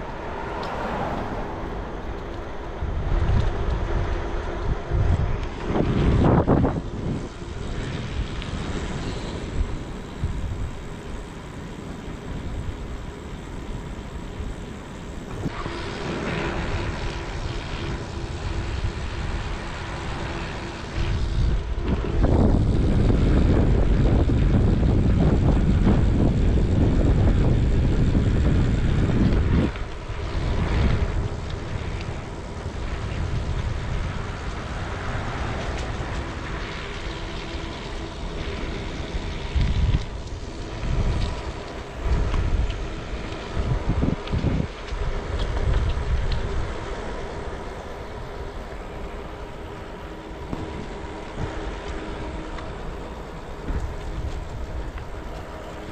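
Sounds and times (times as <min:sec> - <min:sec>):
heavy low wind rumble: 0:00.0 - 0:55.9
steady low hum: 0:00.0 - 0:55.9
wind rushing over microphone: 0:00.0 - 0:55.9.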